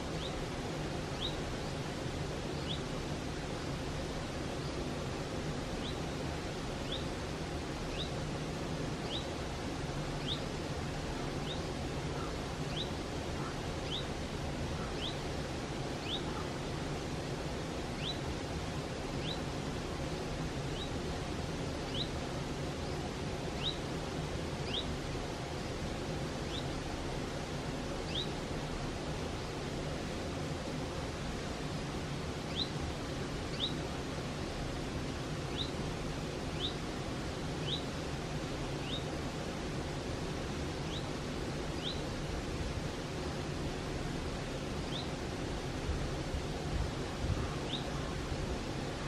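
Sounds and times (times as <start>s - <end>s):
mountain stream rushing: 0.0s - 49.0s.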